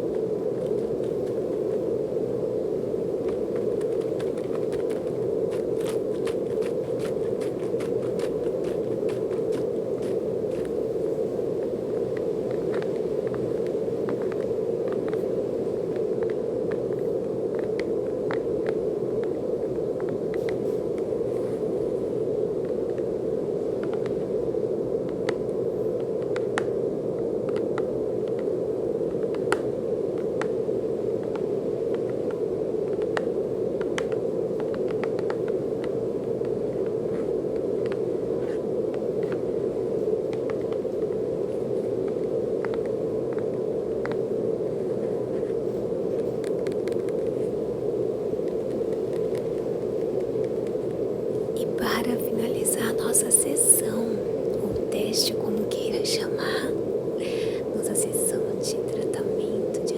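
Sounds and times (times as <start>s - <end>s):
brown noise rushing hiss: 0.0s - 59.9s.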